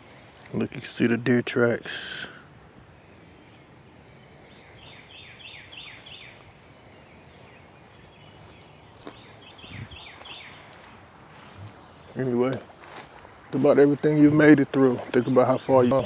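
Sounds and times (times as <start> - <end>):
faint outdoor hiss: 0.0 - 16.0
songbird singing: 0.0 - 16.0.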